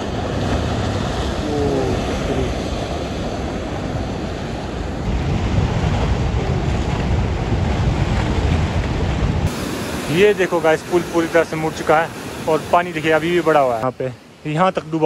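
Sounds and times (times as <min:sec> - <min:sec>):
wind buffeting microphone: 0:00.0 - 0:13.6
muddy torrent rushing: 0:00.0 - 0:15.0.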